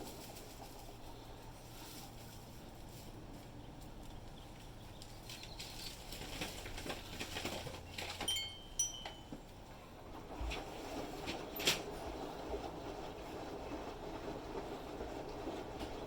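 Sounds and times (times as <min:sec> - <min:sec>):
washing machine hum: 0:00.0 - 0:16.0.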